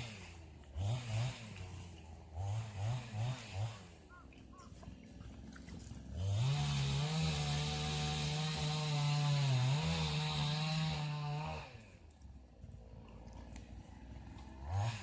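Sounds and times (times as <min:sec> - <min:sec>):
small engine revving: 0:00.0 - 0:12.0, 0:13.3 - 0:15.0.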